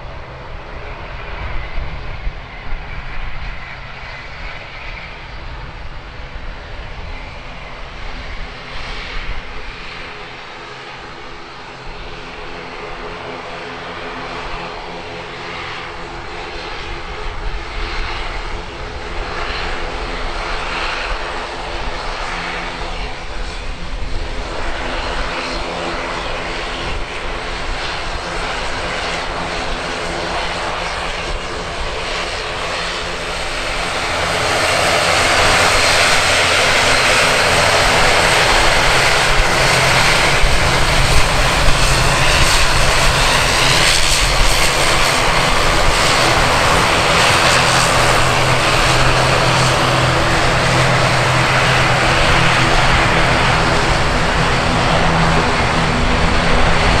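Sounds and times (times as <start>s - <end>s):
airliner engines running: 0.0s - 57.0s.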